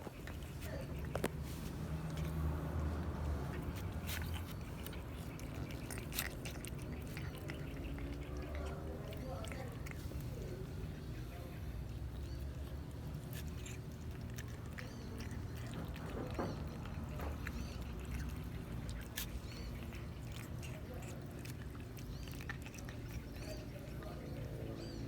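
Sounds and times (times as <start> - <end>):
cat chewing and licking: 0.0 - 25.0
low background hum: 0.0 - 25.0.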